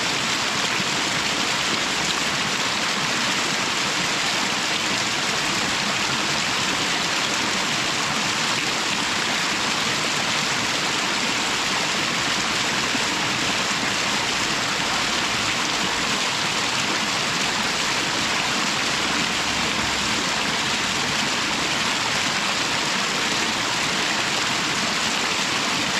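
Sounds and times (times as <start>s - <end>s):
waterfall pouring: 0.1s - 25.9s.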